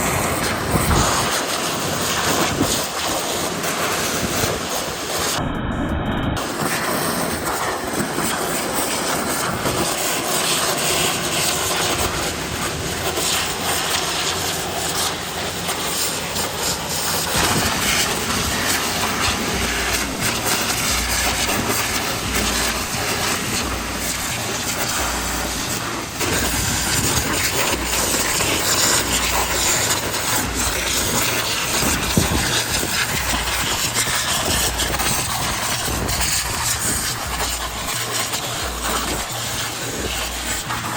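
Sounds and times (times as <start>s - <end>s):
pressure washer spraying metal: 0.0s - 5.4s, 6.4s - 40.9s.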